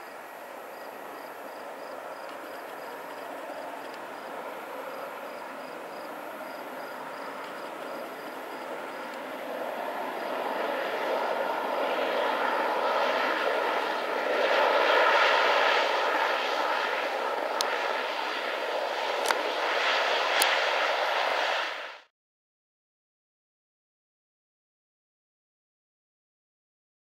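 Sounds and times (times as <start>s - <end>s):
turboprop engines droning: 0.0s - 22.1s.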